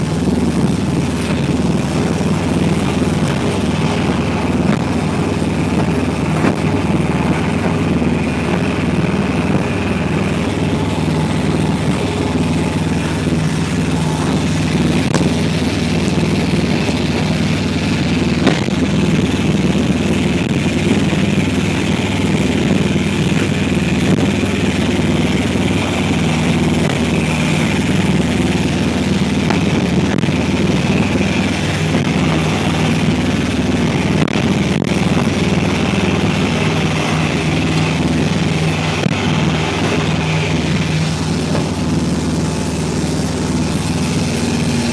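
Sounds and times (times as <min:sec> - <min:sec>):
boat engine humming: 0:00.0 - 0:44.9.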